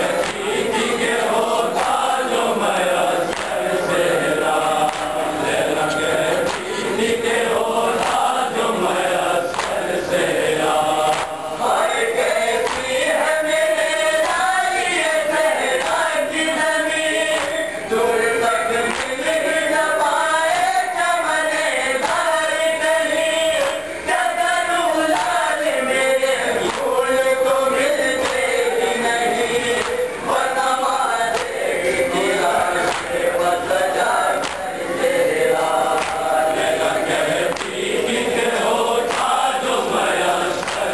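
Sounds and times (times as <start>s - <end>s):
men chanting in unison: 0.0s - 40.9s.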